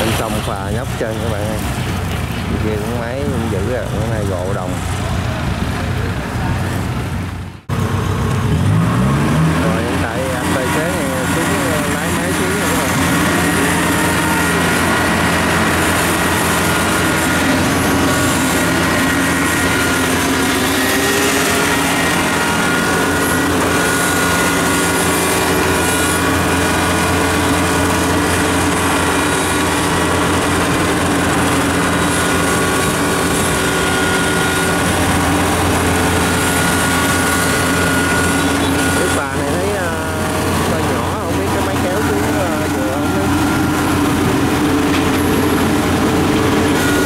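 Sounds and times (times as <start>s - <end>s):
diesel engine running: 0.0s - 47.0s
thin steady whine: 0.0s - 47.0s.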